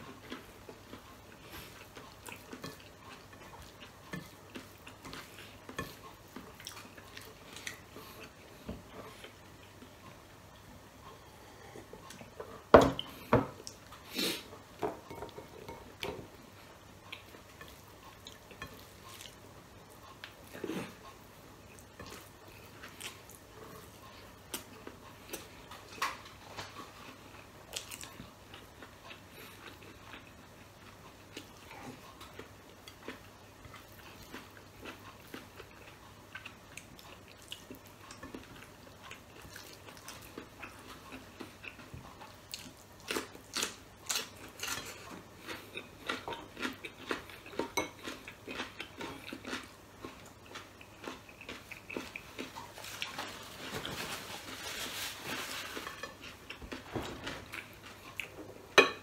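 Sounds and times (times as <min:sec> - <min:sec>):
chewing: 0:00.0 - 0:14.6, 0:17.0 - 0:58.8.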